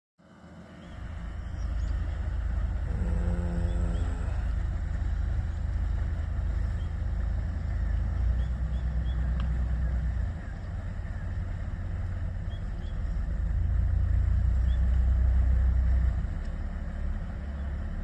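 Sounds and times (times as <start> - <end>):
motorboat engine rumbling: 0.4 - 18.0.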